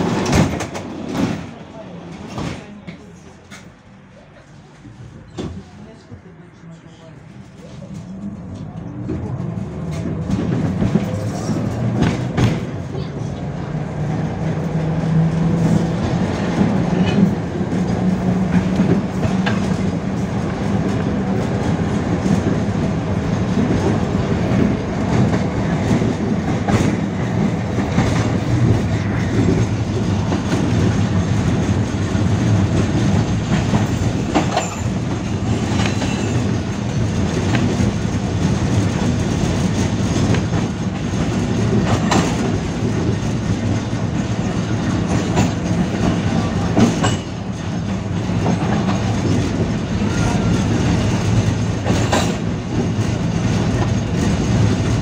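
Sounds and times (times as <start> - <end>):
wheels clacking over rail joints: 0.0 - 3.8, 7.9 - 13.3, 14.0 - 55.0
tram motors humming: 0.0 - 55.0
tram running rumble: 0.0 - 55.0.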